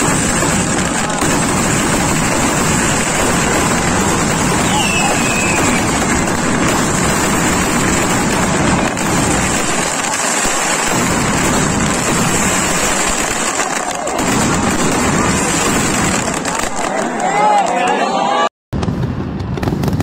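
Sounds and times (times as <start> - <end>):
firecrackers crackling: 0.0 - 18.0, 18.8 - 20.0.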